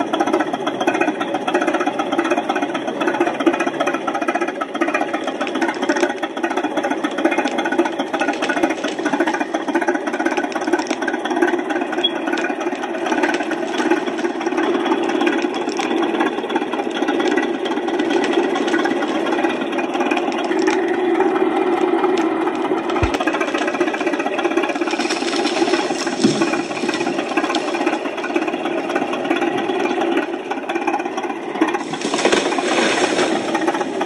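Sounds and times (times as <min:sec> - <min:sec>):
heavy engine running roughly: 0:00.0 - 0:34.0.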